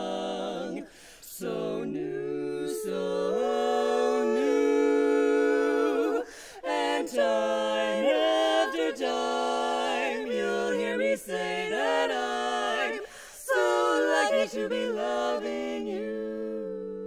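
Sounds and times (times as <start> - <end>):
women singing a cappella harmony: 0.0 - 17.0.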